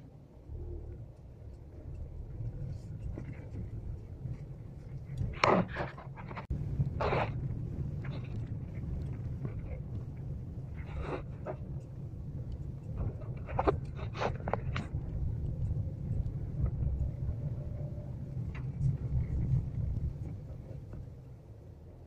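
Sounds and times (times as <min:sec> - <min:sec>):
car driving rumble inside cabin: 0:00.3 - 0:22.0.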